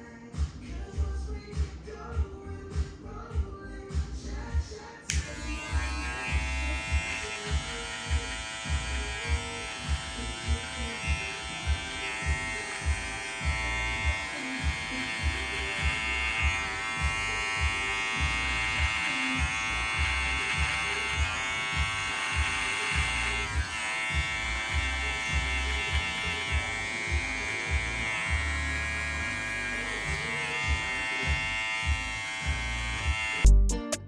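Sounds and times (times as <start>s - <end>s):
hair clipper buzzing: 5.1s - 33.5s.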